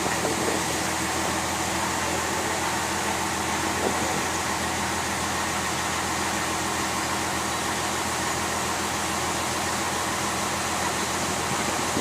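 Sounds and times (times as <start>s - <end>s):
motorboat engine running: 0.0s - 12.0s
rush of wind and water: 0.0s - 12.0s.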